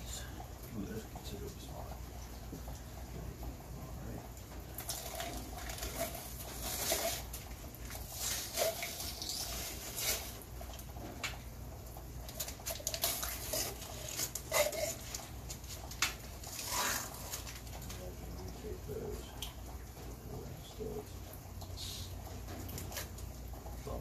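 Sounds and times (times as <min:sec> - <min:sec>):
rain patter: 0:00.0 - 0:24.0.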